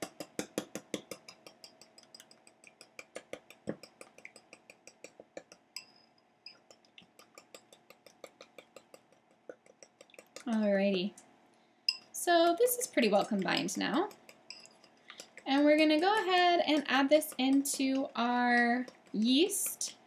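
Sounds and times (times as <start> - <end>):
whisk clicking against bowl: 0.0 - 11.0, 11.9 - 20.0.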